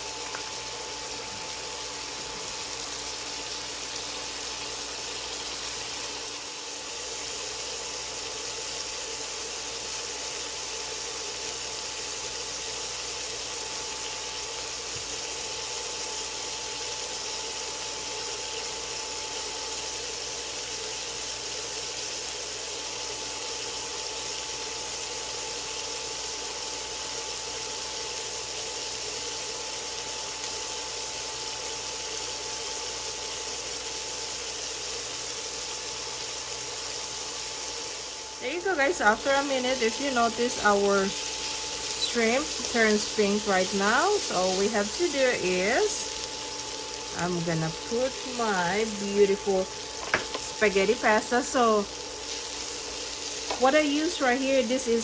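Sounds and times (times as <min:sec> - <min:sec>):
shrimp sizzling in oil: 0:00.0 - 0:55.0.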